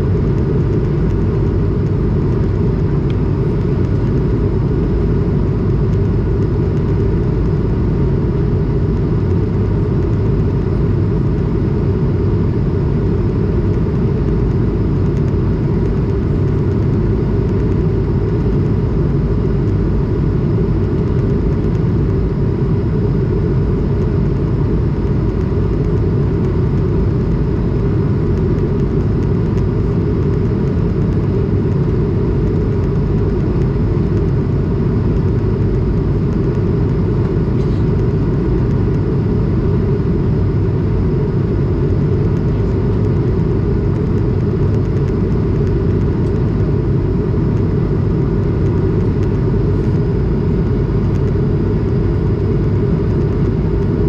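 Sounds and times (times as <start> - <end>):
airplane cabin rumble: 0.0 - 54.0
faint steady hum: 0.0 - 54.0.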